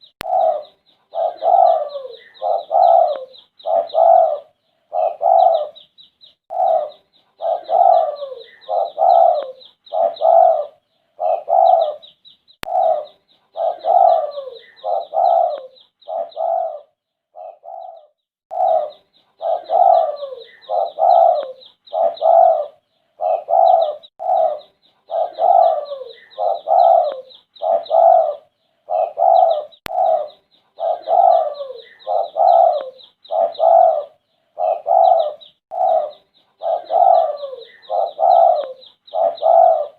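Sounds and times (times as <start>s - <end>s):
dove cooing: 0.0s - 5.9s, 6.5s - 39.9s.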